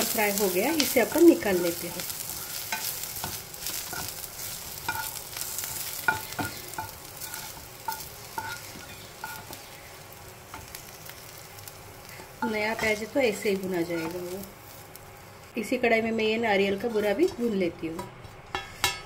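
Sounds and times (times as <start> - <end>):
spatula scraping and knocking pan: 0.0 - 9.7, 10.5 - 14.8, 16.7 - 19.0
onions sizzling in hot oil: 0.0 - 19.0.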